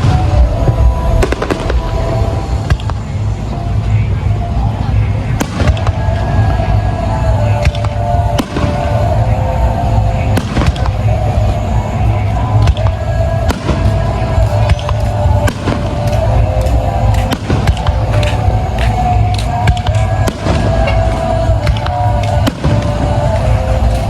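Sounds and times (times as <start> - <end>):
fireworks bangs: 0.0 - 24.0
low rumble: 0.0 - 24.0
music playing: 0.0 - 24.0.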